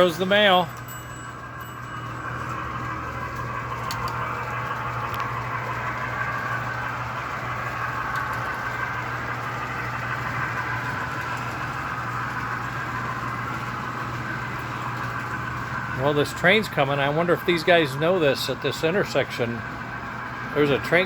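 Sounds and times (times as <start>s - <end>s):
low hum: 0.0s - 21.0s
model train motor whine: 0.0s - 21.0s
wheel rumble: 0.0s - 21.0s.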